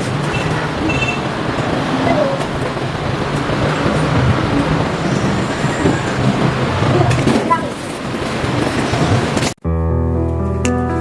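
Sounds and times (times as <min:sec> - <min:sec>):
traffic noise: 0:00.0 - 0:09.6.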